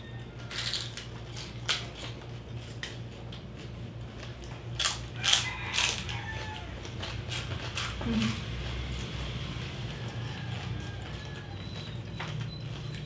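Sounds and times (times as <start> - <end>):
crispy pork skin crunching: 0.0 - 13.0.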